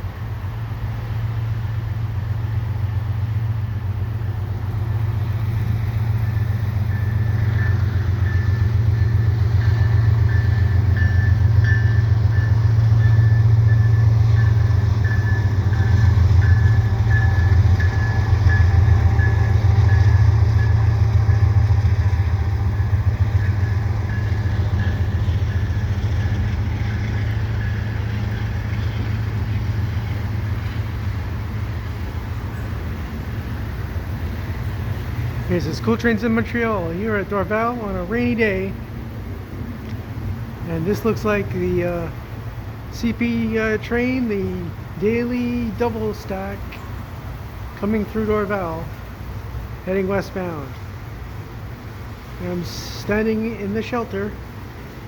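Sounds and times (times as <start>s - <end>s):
heavy vehicle rumble: 0.0s - 55.0s.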